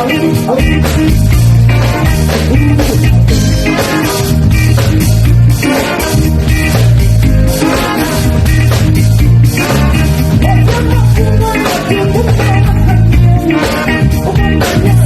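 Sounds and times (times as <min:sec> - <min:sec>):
band playing loud music: 0:00.0 - 0:15.0
pulsing bass line: 0:00.0 - 0:15.0.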